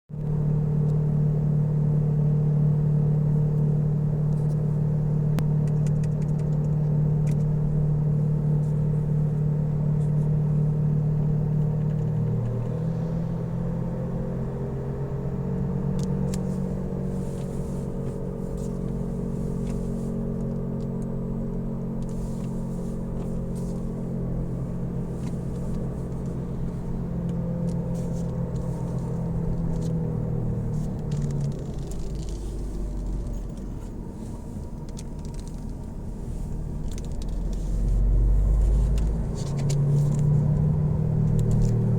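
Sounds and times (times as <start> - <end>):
road rumble: 0.1 - 41.9.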